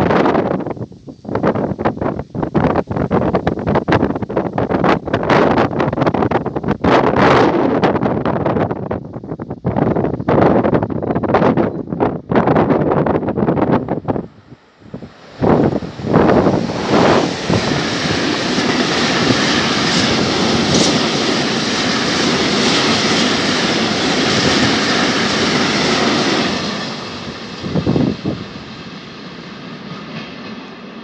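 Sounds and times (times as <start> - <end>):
freight train passing: 0.0 - 31.0.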